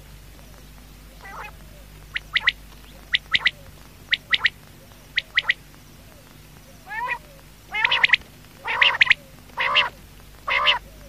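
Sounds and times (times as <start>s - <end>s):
quail calling: 1.1s - 11.0s.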